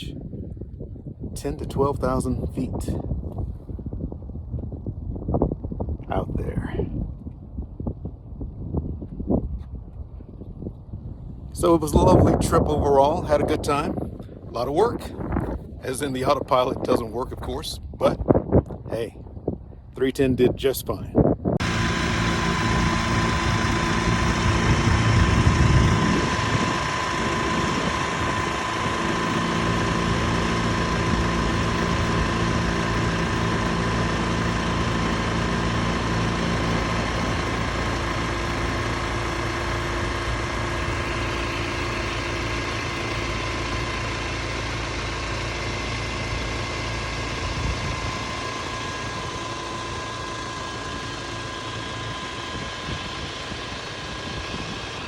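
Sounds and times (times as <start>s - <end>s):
aircraft engine drone: 0.0s - 18.2s, 21.4s - 55.0s
low rumble: 0.0s - 20.0s, 21.3s - 55.0s.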